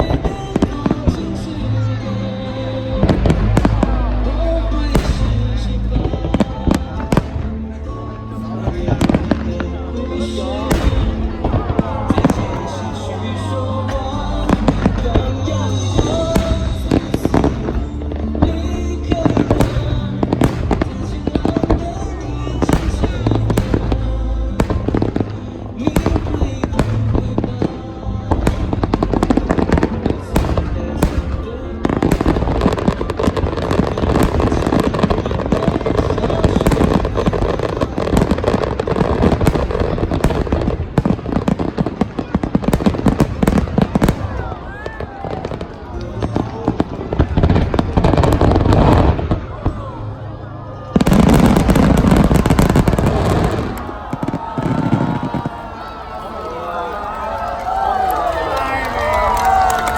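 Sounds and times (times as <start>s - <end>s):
fireworks crackling: 0.0s - 50.1s, 50.8s - 59.9s
music playing: 0.0s - 59.9s.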